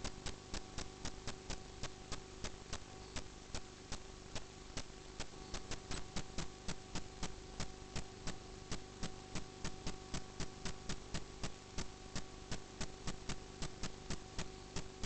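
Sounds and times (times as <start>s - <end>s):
rapid ticking clicks: 0.0s - 15.0s
steady electrical hum: 0.0s - 15.0s.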